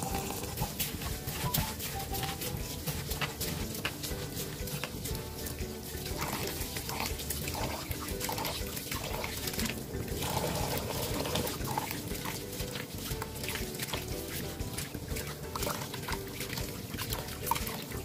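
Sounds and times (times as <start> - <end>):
hand rinsing rice: 0.0 - 18.0
tap water running into bowl: 0.0 - 18.0.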